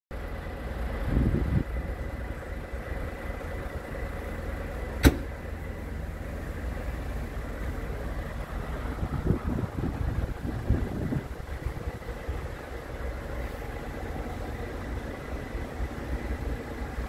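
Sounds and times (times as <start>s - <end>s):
engine idling: 0.1s - 17.0s.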